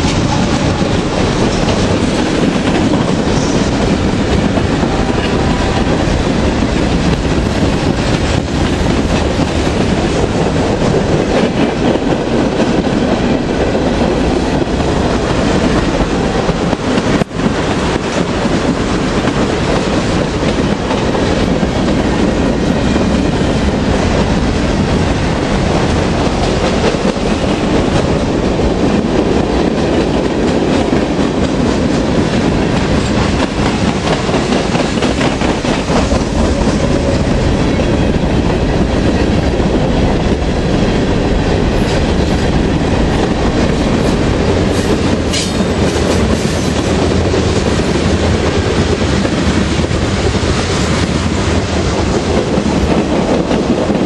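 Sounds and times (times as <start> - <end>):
steel wheels running on rails: 0.0 - 54.0.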